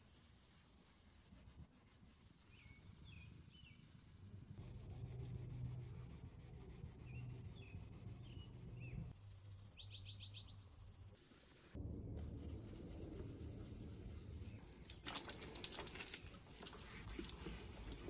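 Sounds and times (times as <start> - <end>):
cloth scrubbing car paint: 0.0 - 8.9, 11.0 - 18.0.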